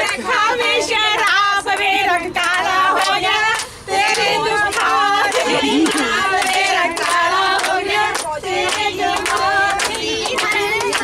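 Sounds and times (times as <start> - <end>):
women singing in chorus: 0.0 - 11.0
hand-clapping in steady beat: 1.2 - 11.0.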